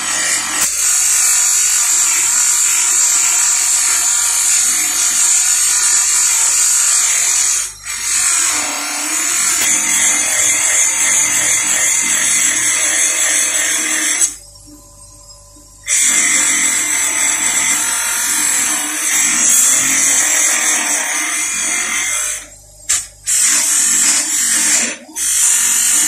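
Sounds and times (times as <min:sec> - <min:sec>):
grinder motor hum: 0:00.0 - 0:26.0
metal on grinder wheel whir: 0:00.0 - 0:26.0.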